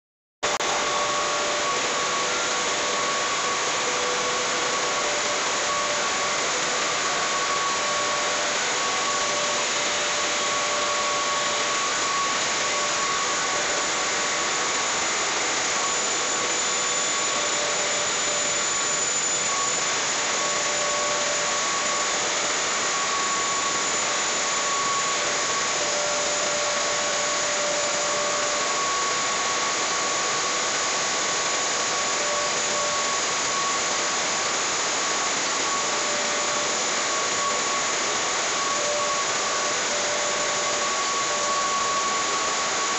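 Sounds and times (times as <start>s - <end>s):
faint whining tones: 0.4s - 42.9s.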